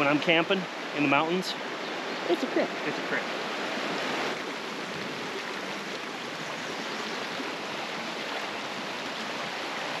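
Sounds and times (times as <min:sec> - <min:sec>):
creek running over rocks: 0:00.0 - 0:10.0.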